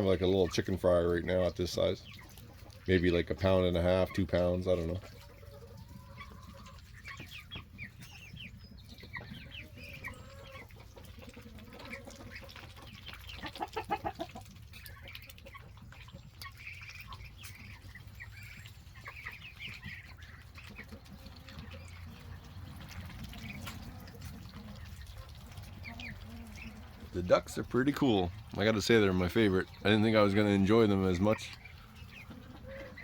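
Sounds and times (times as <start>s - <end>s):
chicks and ducklings peeping: 0.0s - 33.0s.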